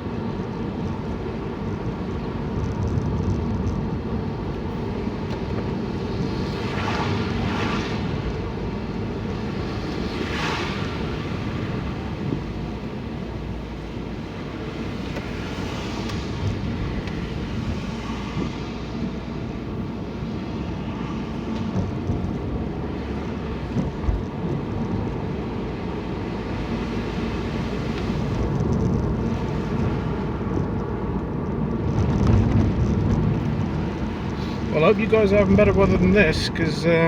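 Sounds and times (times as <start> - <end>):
vehicle road noise rumble: 0.0 - 37.0.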